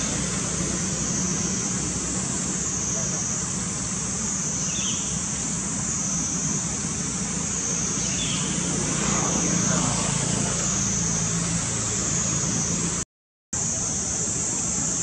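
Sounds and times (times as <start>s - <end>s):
low vehicle engine hum: 0.0s - 13.0s.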